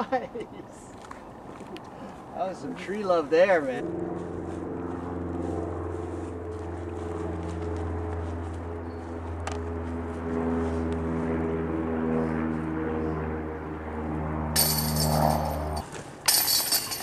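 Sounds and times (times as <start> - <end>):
engine drone: 1.4 - 17.0.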